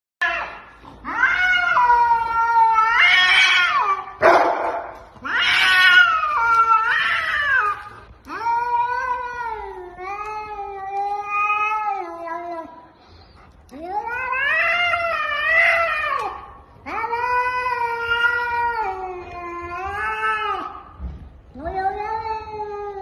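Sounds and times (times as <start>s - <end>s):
cats yowling: 0.2s - 12.8s, 13.7s - 23.0s.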